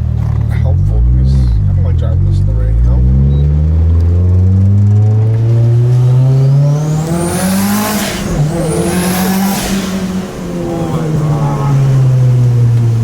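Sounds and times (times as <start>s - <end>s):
car engine accelerating: 0.0s - 13.0s
high rising turbo whine: 0.0s - 13.0s.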